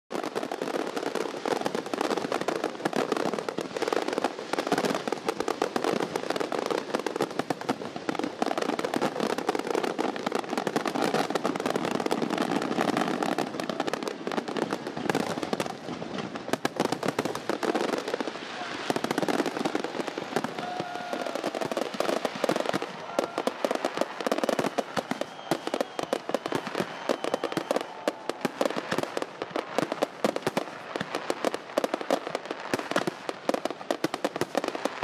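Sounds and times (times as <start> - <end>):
fireworks crackling and popping: 0.1 - 35.0.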